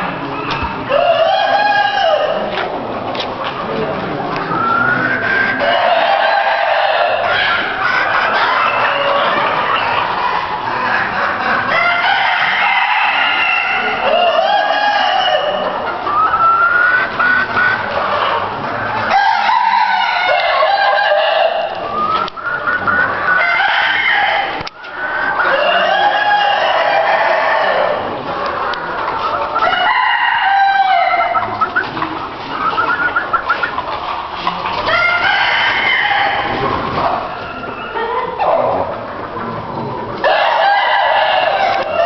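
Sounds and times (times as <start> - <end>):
roosters crowing: 0.0 - 2.9, 3.6 - 42.0
hens clucking: 0.0 - 42.0.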